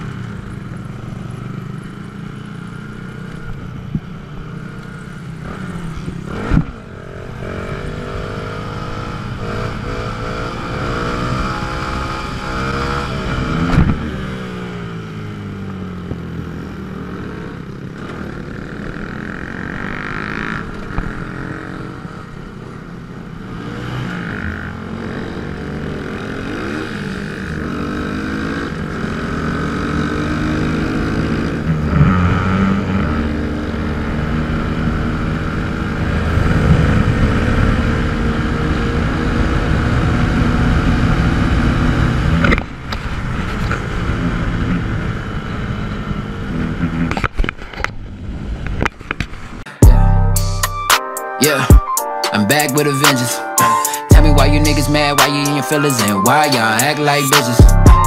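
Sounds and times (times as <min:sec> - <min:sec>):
motorcycle engine revving: 0:00.0 - 0:47.4.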